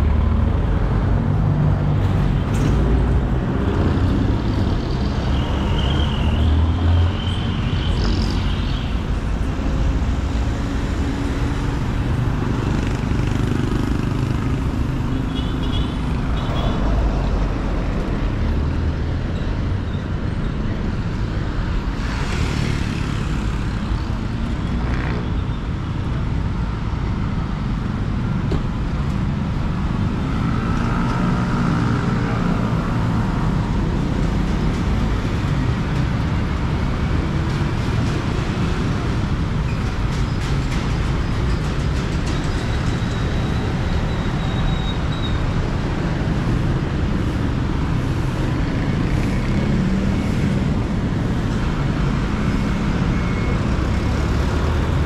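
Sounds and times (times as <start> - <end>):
road traffic engine rumble: 0.0 - 55.0.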